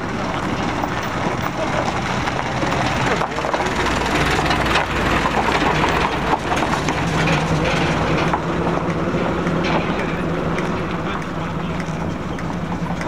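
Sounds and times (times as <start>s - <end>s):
loud vehicle engines running: 0.0s - 13.0s.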